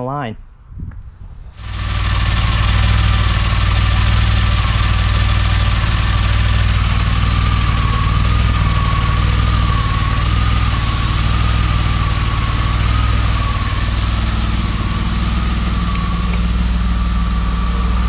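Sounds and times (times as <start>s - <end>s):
high whine: 1.3s - 18.0s
car engine idling: 1.6s - 18.0s.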